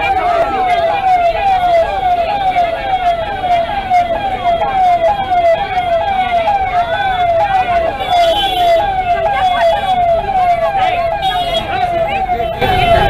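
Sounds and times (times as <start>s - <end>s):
faint voices: 0.0s - 13.0s
siren wailing: 0.0s - 13.0s.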